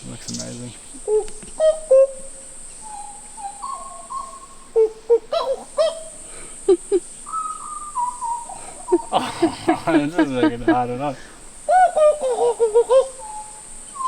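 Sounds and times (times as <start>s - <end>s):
birds whistling calls: 0.0s - 14.0s
high-pitched insect drone: 0.0s - 14.0s.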